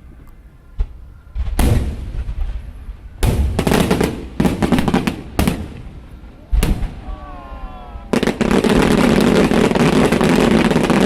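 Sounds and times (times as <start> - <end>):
fireworks crackling: 0.8 - 7.4, 8.0 - 11.0
fireworks bangs: 0.8 - 11.0.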